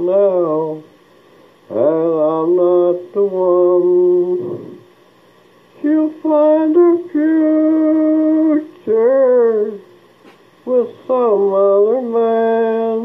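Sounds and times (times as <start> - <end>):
man singing unaccompanied: 0.0 - 4.9, 5.7 - 13.0.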